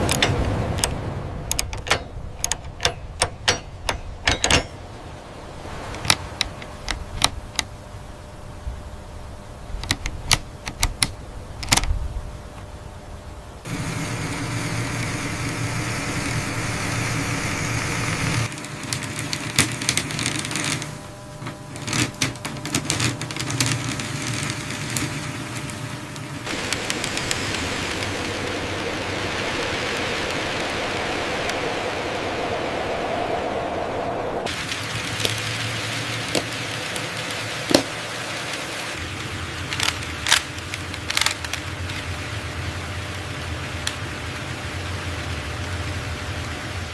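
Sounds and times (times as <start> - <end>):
mechanical whirr with low hum: 0.0 - 46.9
steady hiss: 0.0 - 46.9.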